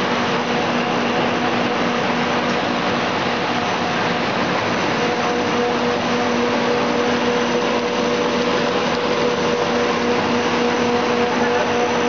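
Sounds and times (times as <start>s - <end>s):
machinery whirring and humming: 0.0s - 12.0s.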